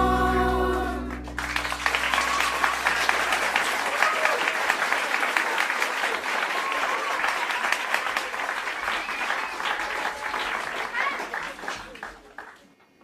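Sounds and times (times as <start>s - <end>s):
crowd applause: 0.8s - 13.0s.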